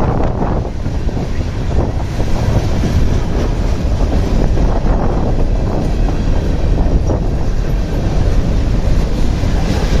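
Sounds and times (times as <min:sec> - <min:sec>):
freight train rumbling past: 0:00.0 - 0:10.0
steel wheels clattering on rails: 0:00.0 - 0:10.0.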